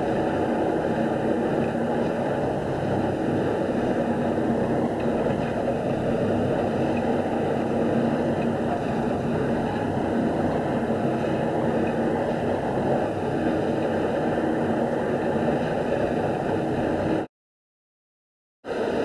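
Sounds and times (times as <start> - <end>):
track maintenance machine running: 0.0 - 17.3.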